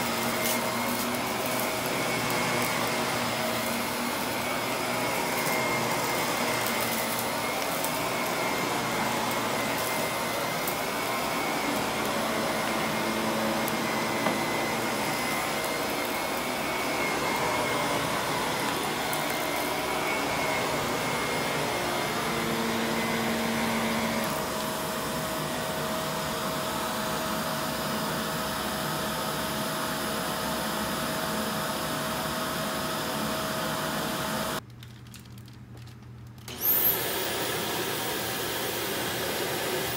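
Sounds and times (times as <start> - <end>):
vacuum cleaner running: 0.0 - 34.6, 36.5 - 39.9.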